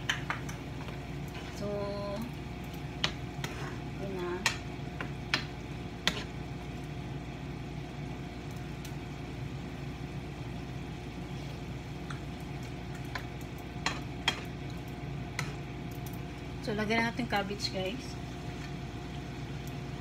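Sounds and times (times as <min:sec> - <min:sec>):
food sizzling in a frying pan: 0:00.0 - 0:20.0
steady hum: 0:00.0 - 0:20.0.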